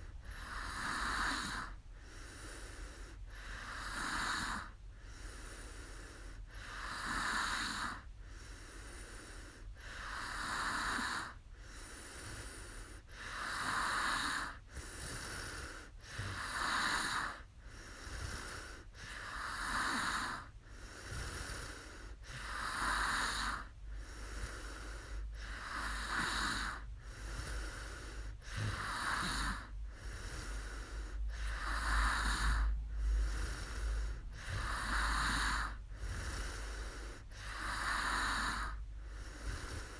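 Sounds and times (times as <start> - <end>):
woman snoring: 0.0 - 39.9.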